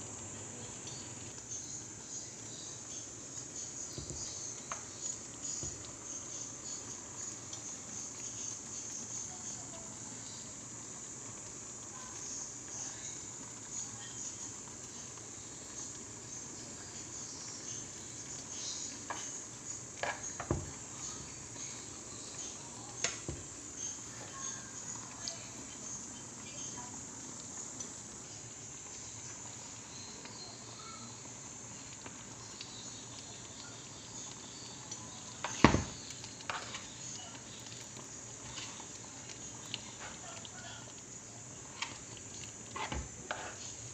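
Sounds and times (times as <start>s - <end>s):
stew bubbling in a pan: 0.0s - 43.9s.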